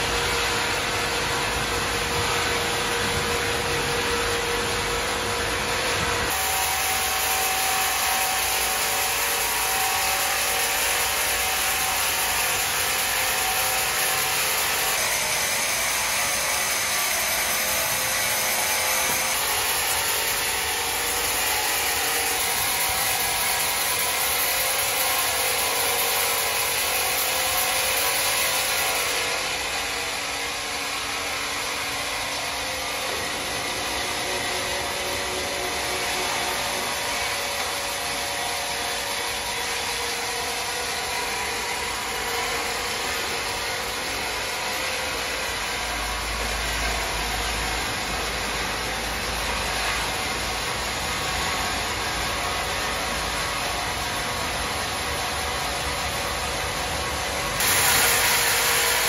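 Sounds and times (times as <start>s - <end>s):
saw cutting through wood: 0.0s - 59.0s.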